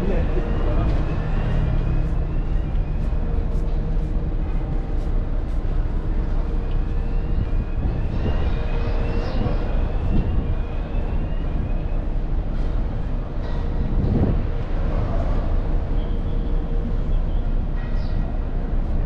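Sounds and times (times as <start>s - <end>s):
low rumble: 0.0s - 17.6s
wind-like noise: 0.0s - 19.0s.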